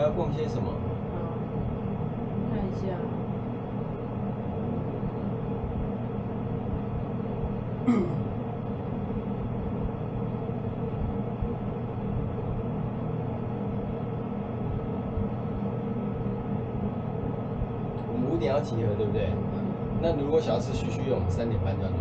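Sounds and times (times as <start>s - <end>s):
low hum of held tones: 0.0s - 22.0s.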